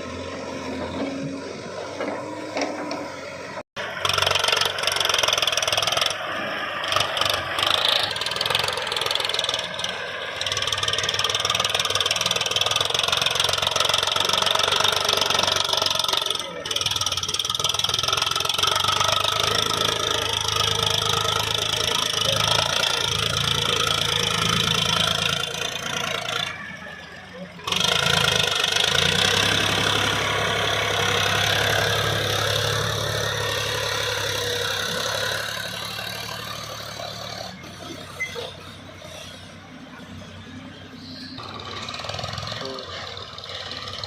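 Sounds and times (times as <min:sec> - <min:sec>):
heavy machinery diesel engine: 0:00.0 - 0:44.0.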